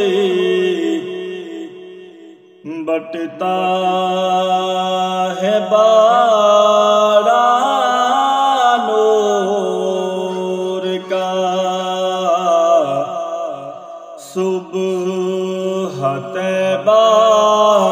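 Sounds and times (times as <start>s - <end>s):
man singing devotional song: 0.0s - 17.9s.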